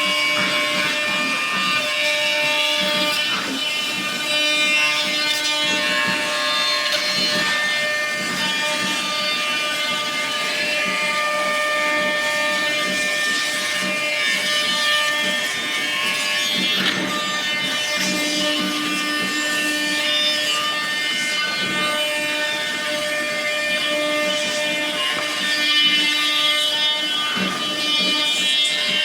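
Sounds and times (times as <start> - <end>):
cnc machine motors whining: 0.0 - 29.0.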